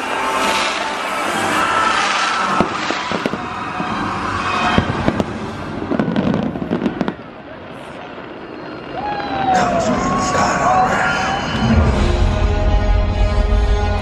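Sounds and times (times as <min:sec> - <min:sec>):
firework crackling: 0:00.0 - 0:14.0.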